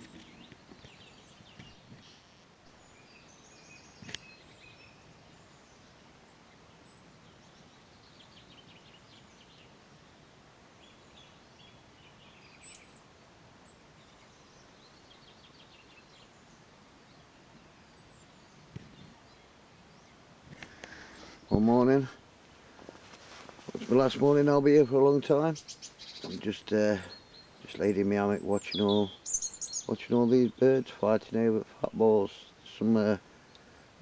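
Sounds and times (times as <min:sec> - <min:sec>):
background hiss: 0:00.0 - 0:34.0
songbirds chirping: 0:00.0 - 0:34.0.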